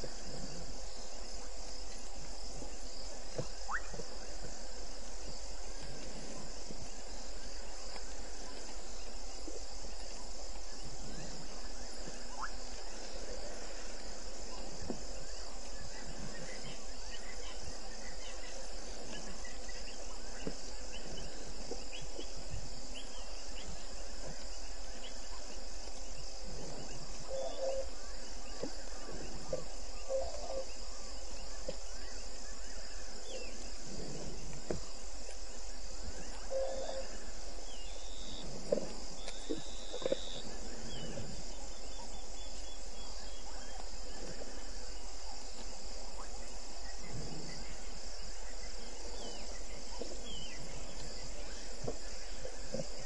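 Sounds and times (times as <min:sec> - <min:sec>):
crickets trilling: 0:00.0 - 0:53.0
faint insect chirps: 0:00.0 - 0:53.0.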